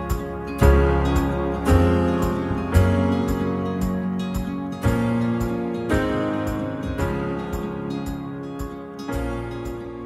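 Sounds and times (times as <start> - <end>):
acoustic guitar folk music: 0.0 - 10.0.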